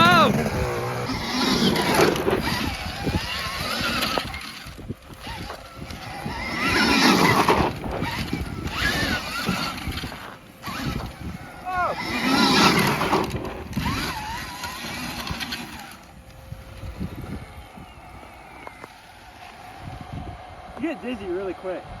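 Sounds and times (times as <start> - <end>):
motorcycle engines revving: 0.0 - 21.9.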